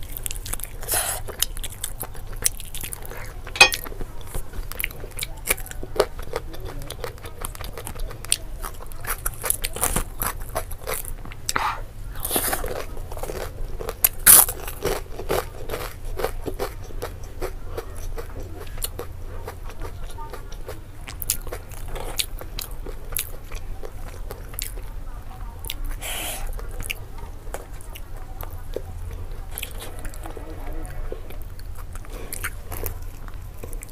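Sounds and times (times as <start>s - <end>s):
chewing with wet mouth noises: 0.0s - 33.9s.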